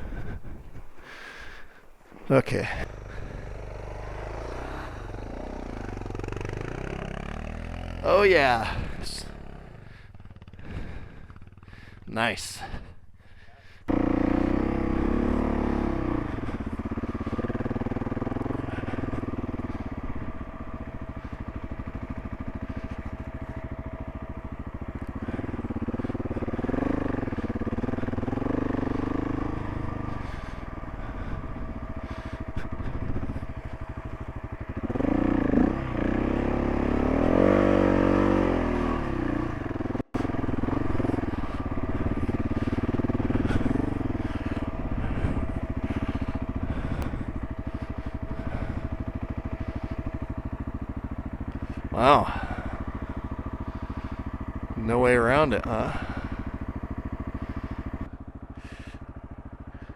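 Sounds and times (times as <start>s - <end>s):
motorcycle engine revving: 2.2s - 59.9s.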